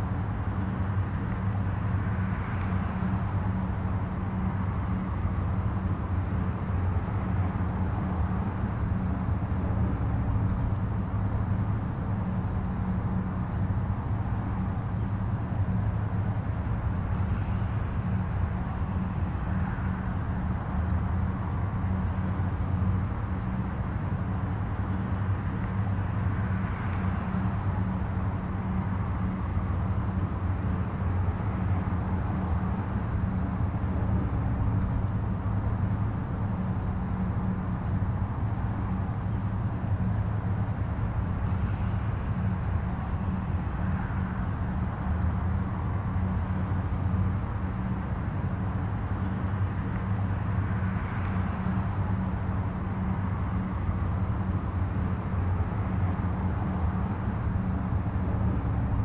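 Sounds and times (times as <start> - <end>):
distant highway traffic: 0.0 - 59.0.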